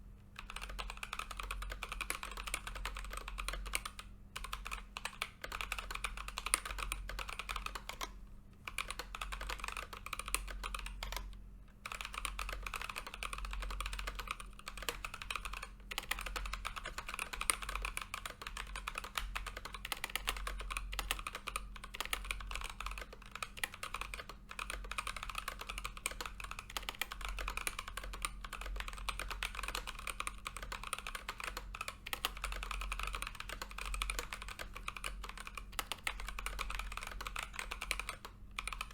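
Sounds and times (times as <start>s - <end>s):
mechanical keyboard typing: 0.4s - 38.9s.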